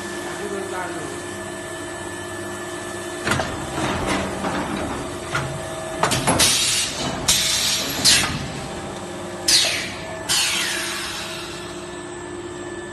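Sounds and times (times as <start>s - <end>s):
machine hum: 0.0s - 12.9s.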